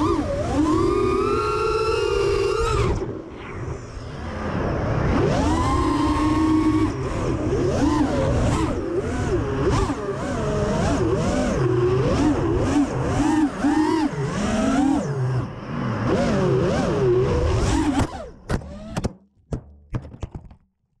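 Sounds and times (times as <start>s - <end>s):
drone motors whining: 0.0s - 19.2s.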